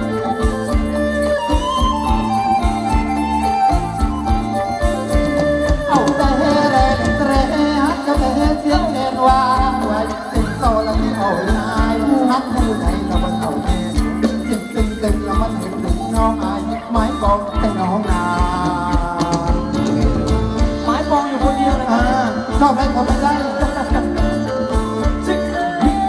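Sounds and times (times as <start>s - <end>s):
sliding melody: 0.0s - 26.0s
steady drum beat: 0.0s - 26.0s.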